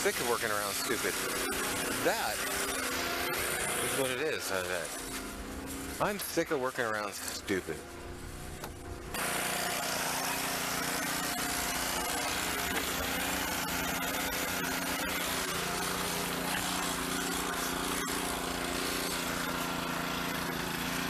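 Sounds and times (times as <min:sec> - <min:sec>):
pressure washer engine running: 0:00.0 - 0:21.0.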